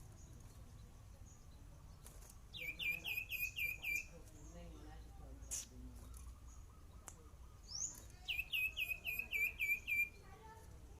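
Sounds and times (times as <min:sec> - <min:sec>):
songbird singing hooked notes: 0:00.0 - 0:10.3.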